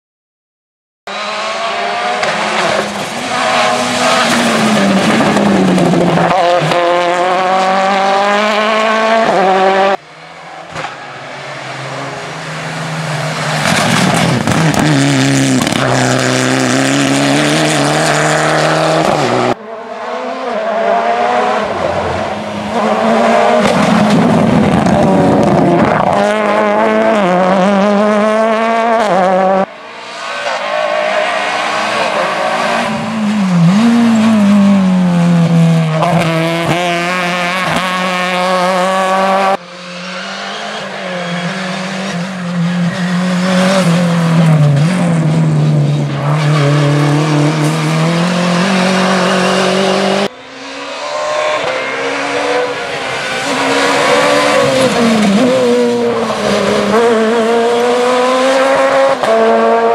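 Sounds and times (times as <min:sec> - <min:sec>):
rally car engine at full throttle: 0:01.1 - 0:59.9.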